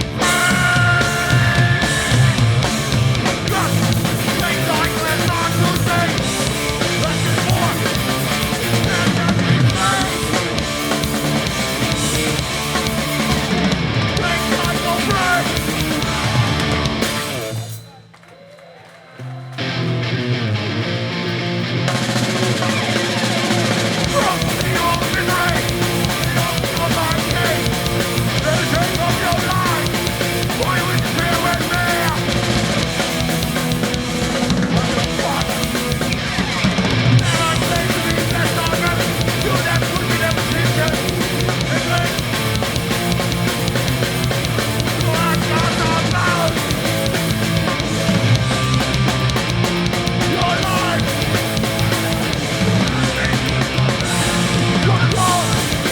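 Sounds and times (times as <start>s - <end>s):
bass guitar: 0.0s - 17.8s, 19.4s - 55.9s
distorted electric guitars: 0.0s - 17.8s, 19.6s - 55.9s
drum kit: 0.0s - 18.0s, 21.1s - 55.9s.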